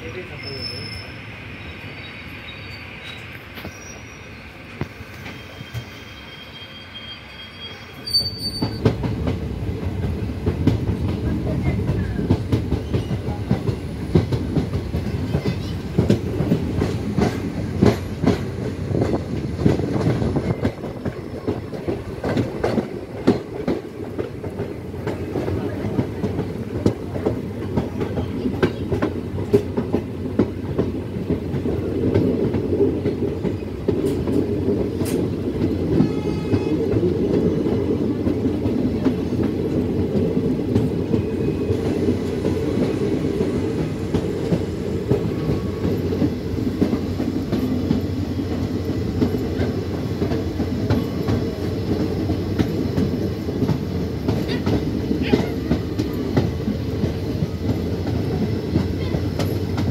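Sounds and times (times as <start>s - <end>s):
train wheels rumbling on rails: 0.0s - 59.9s
wheels clicking over rail joints: 10.0s - 59.9s.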